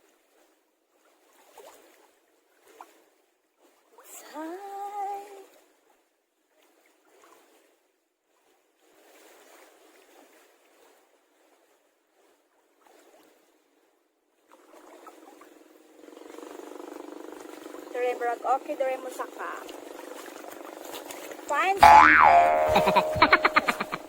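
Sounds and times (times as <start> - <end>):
sea water lapping: 0.2 - 24.0.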